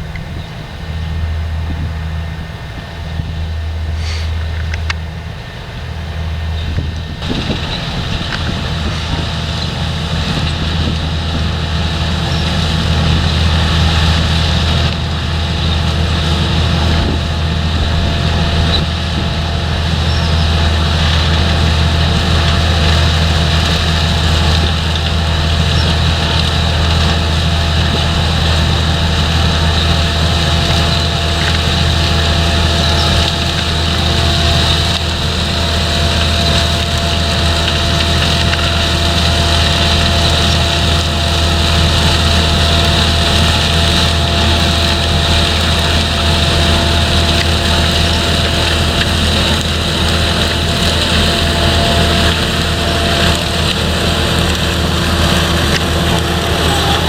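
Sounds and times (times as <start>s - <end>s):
constant high whine: 0.0s - 57.0s
diesel engine drone: 0.0s - 57.0s.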